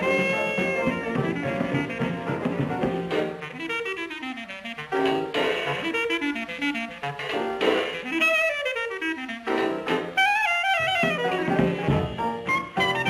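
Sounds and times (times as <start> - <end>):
jazz band with horns: 0.0 - 13.0.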